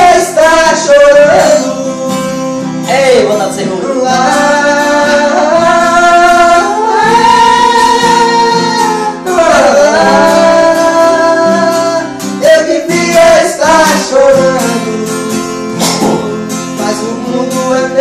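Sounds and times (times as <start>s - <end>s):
acoustic guitar: 0.0s - 18.0s.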